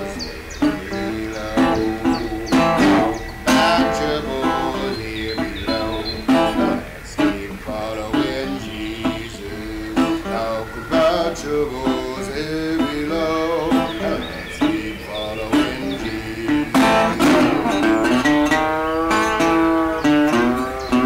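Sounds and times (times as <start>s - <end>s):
strummed acoustic guitar music: 0.0s - 21.0s.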